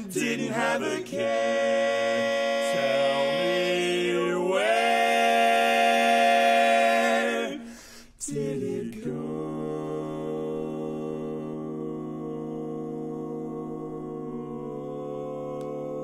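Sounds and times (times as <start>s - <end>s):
male quartet singing a cappella: 0.0s - 16.0s.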